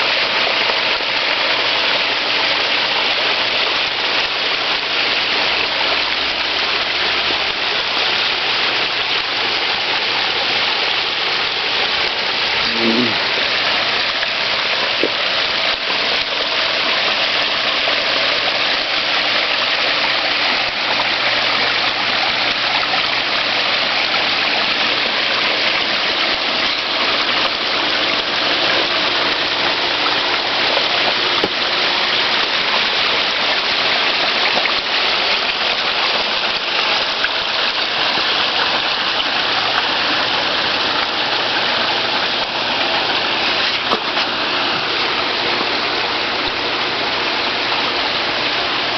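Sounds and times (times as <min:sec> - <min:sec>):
water pouring over pond waterfall: 0:00.0 - 0:48.9.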